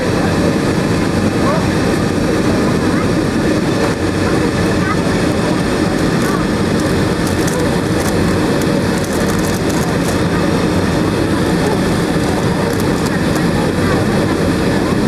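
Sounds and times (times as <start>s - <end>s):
jet engines idling in cabin: 0.0s - 15.0s.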